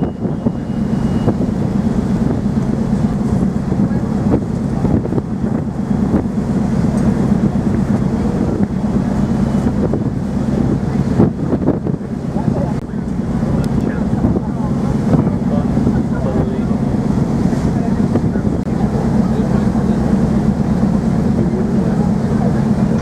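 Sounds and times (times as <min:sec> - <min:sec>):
low engine hum: 0:00.0 - 0:23.0
wind buffeting microphone: 0:00.0 - 0:23.0.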